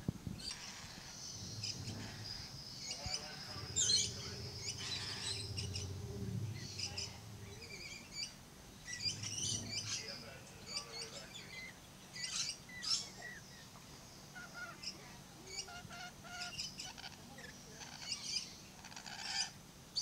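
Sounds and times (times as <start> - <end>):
faint low hum: 0.0 - 20.0
birds chirping: 0.4 - 20.0.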